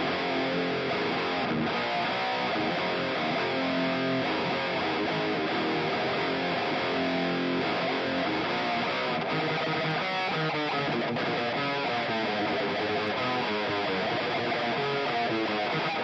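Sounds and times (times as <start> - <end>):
high-gain electric guitar lead: 0.0 - 16.0.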